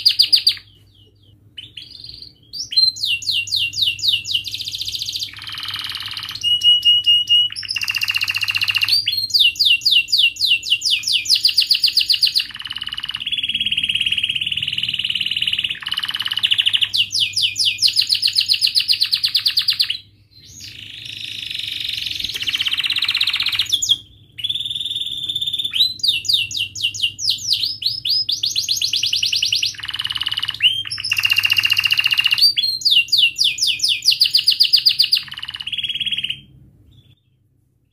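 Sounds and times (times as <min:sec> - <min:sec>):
canary singing: 0:00.0 - 0:37.5.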